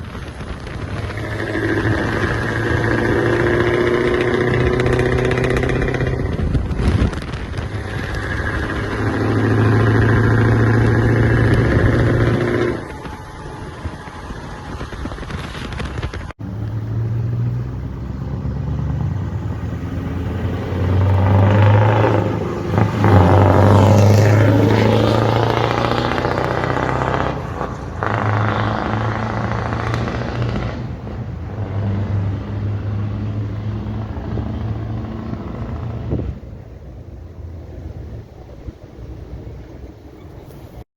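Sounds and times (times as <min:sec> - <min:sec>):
diesel truck engines revving: 0:00.0 - 0:40.8
truck exhaust surging: 0:00.0 - 0:40.8.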